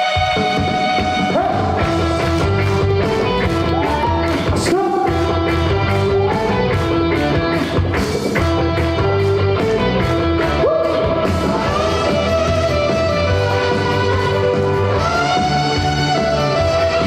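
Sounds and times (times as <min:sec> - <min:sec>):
upbeat song with drums and guitar: 0:00.0 - 0:17.0.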